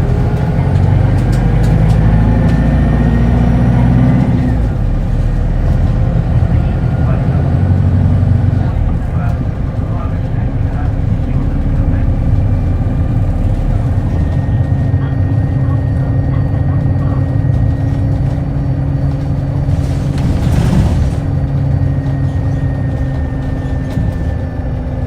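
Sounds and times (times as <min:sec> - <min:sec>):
bus engine drone: 0:00.0 - 0:25.0.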